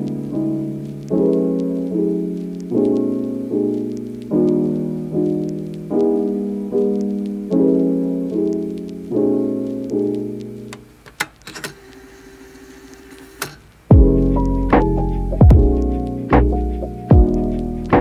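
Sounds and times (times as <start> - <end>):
slow piano chords: 0.0 - 10.8, 13.9 - 18.0.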